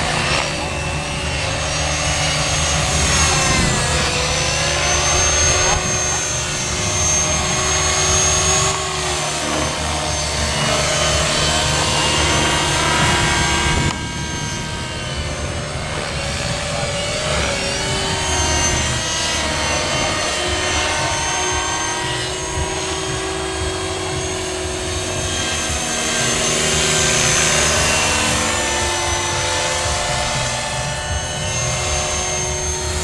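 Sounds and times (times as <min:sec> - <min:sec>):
rc helicopter whine: 0:00.0 - 0:33.0.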